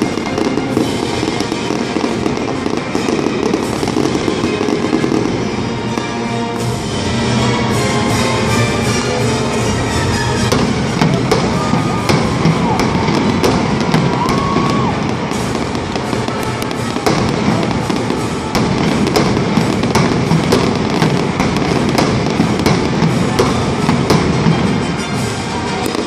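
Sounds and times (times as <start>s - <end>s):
fireworks bangs and crackles: 0.0s - 26.0s
music: 0.0s - 26.0s.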